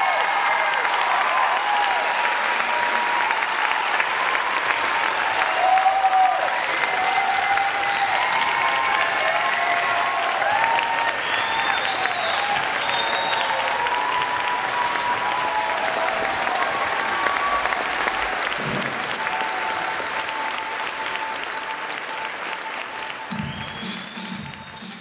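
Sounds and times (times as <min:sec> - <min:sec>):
audience applauding: 0:00.0 - 0:25.0
cheers: 0:00.0 - 0:25.0.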